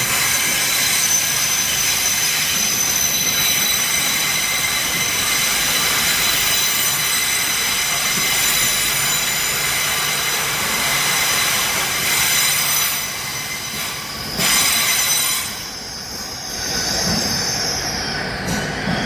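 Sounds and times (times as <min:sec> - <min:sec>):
high-pitched wheel squeal: 0:00.0 - 0:19.0
train rolling on rails: 0:00.0 - 0:19.0.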